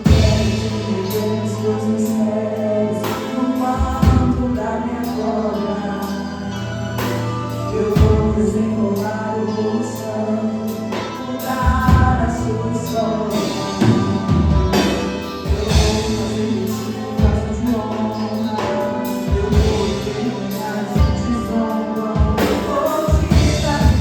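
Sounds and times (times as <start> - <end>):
instrumental accompaniment with bass: 0.0 - 24.0
voices singing: 0.0 - 24.0.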